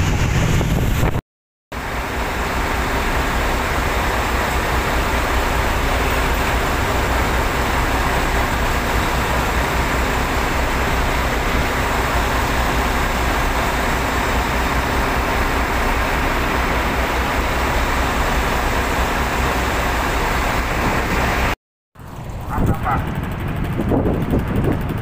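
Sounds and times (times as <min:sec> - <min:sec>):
ferry engines droning: 0:01.8 - 0:25.0.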